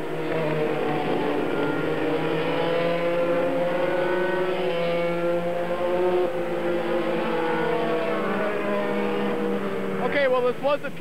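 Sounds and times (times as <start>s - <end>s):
racing cars passing at high revs: 0.0s - 11.0s.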